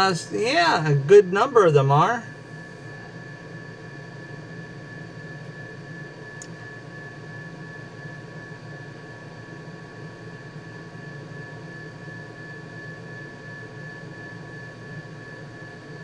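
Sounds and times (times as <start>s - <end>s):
high-pitched whine: 0.0s - 16.0s
machine hum and hiss: 0.0s - 16.0s.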